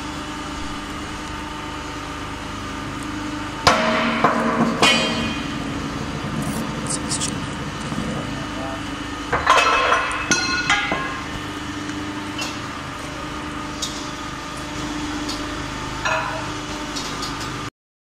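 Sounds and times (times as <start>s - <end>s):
steady hum: 0.0s - 17.2s.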